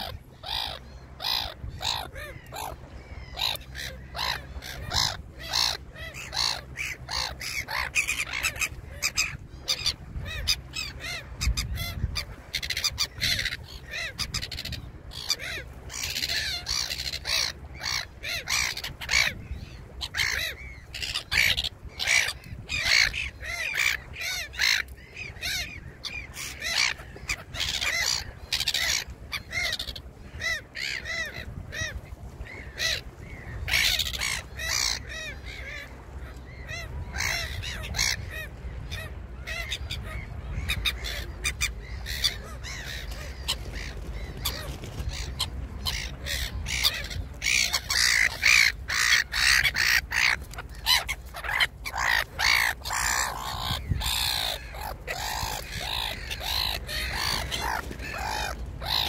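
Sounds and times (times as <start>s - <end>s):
birds making harsh calls: 0.0s - 35.9s, 36.5s - 59.0s.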